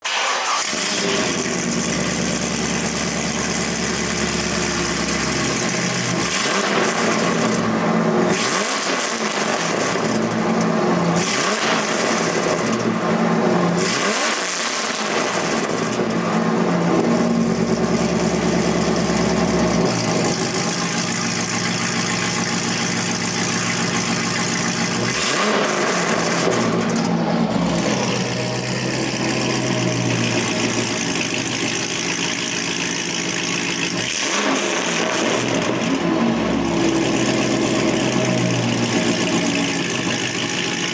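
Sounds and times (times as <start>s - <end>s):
car engine idling and revving: 0.1s - 40.9s.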